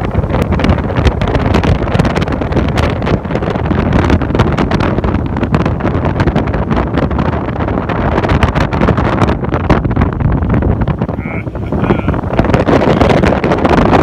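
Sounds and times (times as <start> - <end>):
outboard motor running: 0.0 - 14.0
wind buffeting microphone: 0.0 - 14.0.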